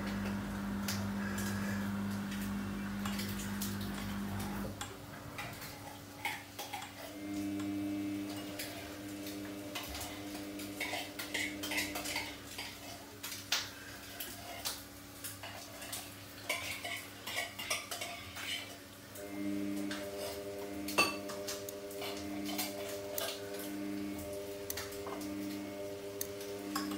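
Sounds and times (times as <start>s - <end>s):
washing machine motor hum: 0.0s - 26.9s.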